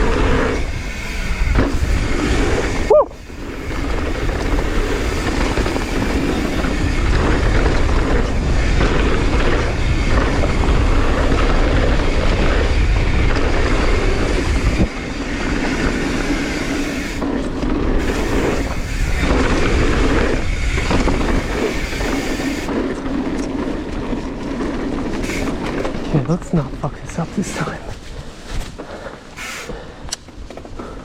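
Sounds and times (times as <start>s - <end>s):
bike rattling: 0.0s - 31.0s
bike tyre roar on dirt: 0.0s - 31.0s
wind rumbling on microphone: 0.0s - 31.0s.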